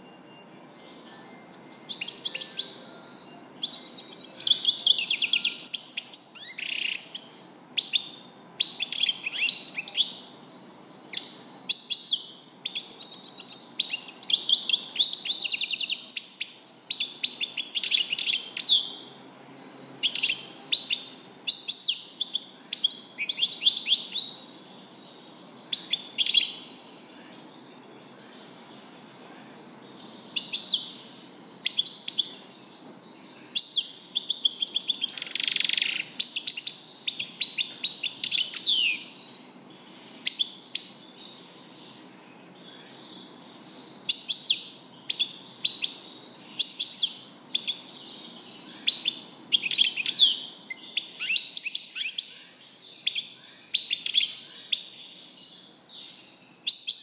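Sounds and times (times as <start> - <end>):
finch twittering song: 0.0 - 57.0.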